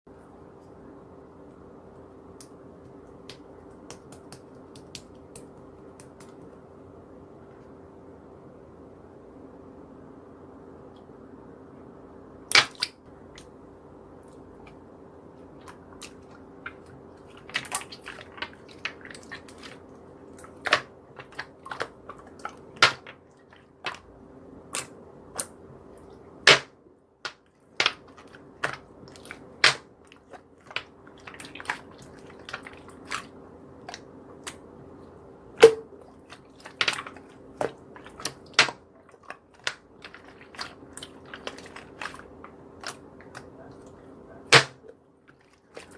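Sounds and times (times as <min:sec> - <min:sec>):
faint steady hum: 0:00.1 - 0:45.9.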